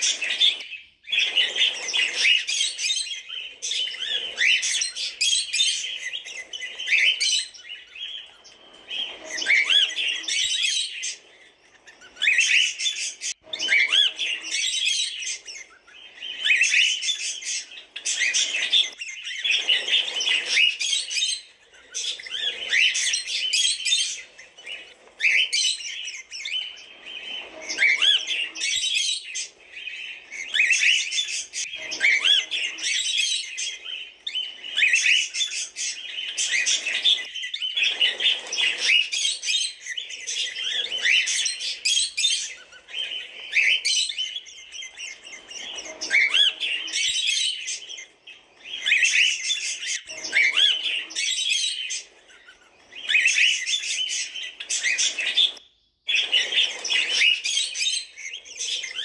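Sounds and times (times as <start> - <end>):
cockatiels chirping: 0.0 - 59.0.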